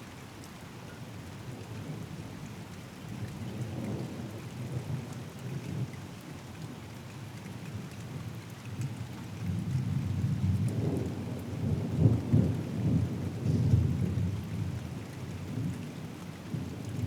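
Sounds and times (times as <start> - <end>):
steady rain falling: 0.1 - 17.0.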